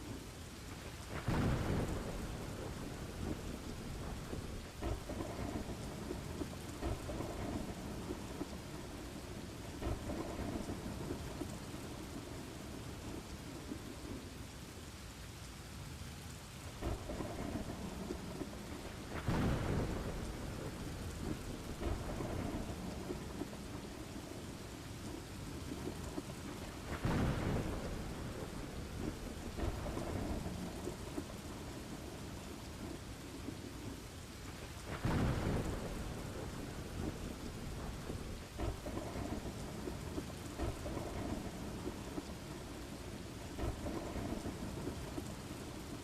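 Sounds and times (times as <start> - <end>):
steady rain: 0.0 - 46.0
rumbling thunder: 1.0 - 14.3, 16.8 - 46.0.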